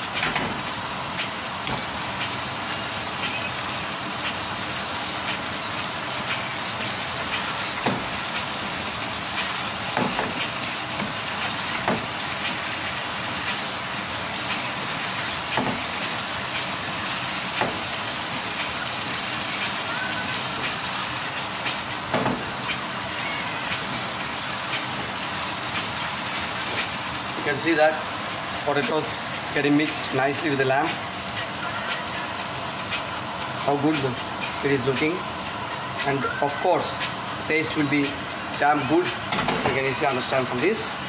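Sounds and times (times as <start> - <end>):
meat sizzling in a frying pan: 0.0 - 41.0.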